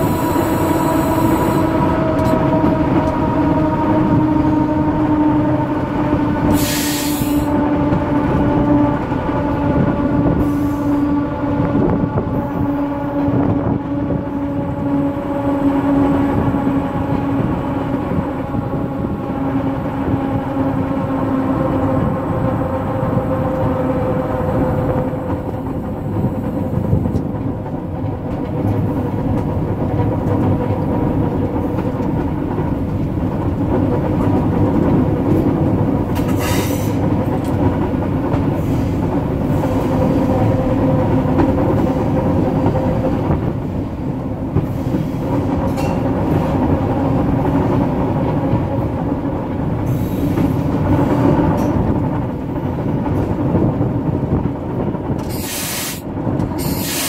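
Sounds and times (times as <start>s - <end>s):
diesel engine drone: 0.0s - 57.0s
wheels clattering on rail: 0.0s - 57.0s.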